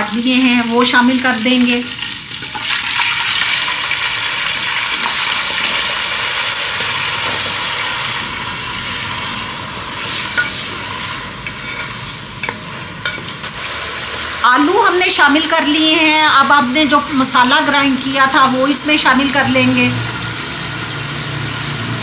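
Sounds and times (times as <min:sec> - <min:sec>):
potatoes sizzling in hot oil: 0:00.0 - 0:22.0.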